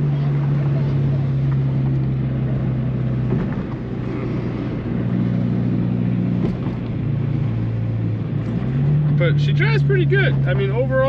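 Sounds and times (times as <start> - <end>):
car engine droning in cabin: 0.0 - 11.0.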